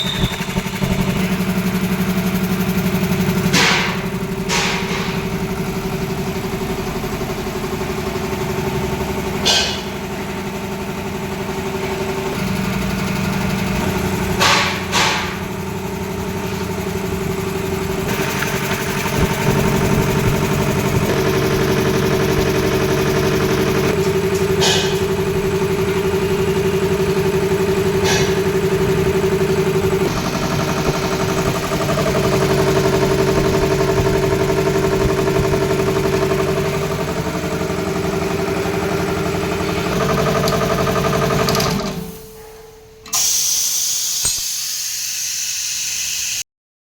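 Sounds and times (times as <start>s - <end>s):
air compressor droning: 0.0s - 46.4s.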